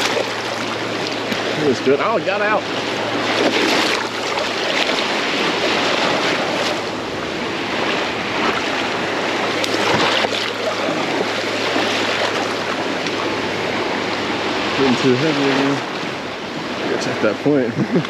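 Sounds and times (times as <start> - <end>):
seawater sloshing and splashing: 0.0 - 17.2.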